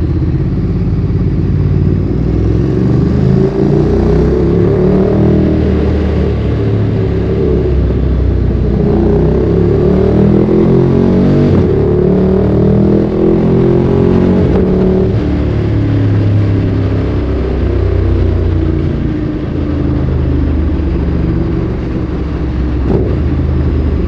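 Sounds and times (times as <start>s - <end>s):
motorcycle engine while riding: 0.0s - 24.0s.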